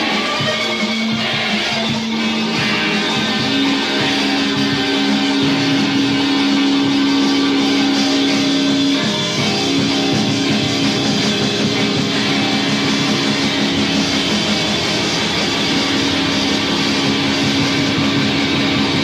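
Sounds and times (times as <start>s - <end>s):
guitar-led rock music: 0.0s - 19.0s.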